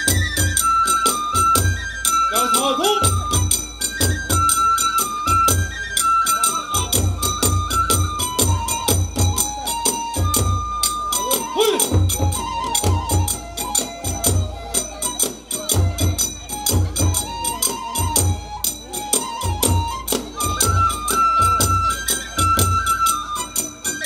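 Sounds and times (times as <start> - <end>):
bamboo flute melody: 0.0 - 24.0
hand cymbals clashing: 0.0 - 24.0.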